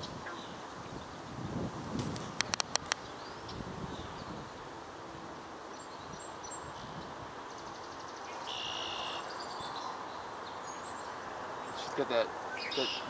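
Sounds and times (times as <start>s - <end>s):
outdoor background noise: 0.0s - 13.0s
small birds calling: 2.2s - 13.0s.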